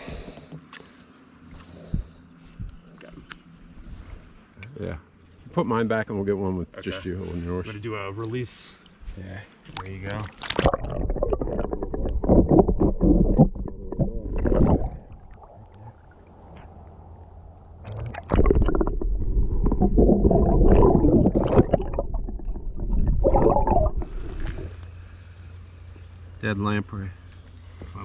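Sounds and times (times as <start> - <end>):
muffled river water rumbling: 0.0 - 28.0.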